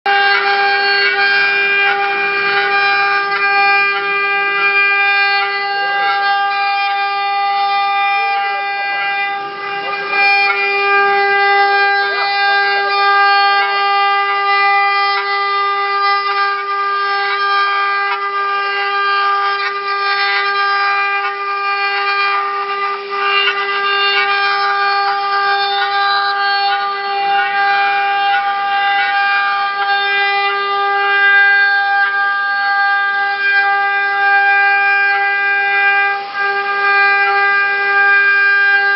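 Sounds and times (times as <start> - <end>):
cutter engraving wood: 0.0 - 38.9
router spindle whine: 0.0 - 38.9.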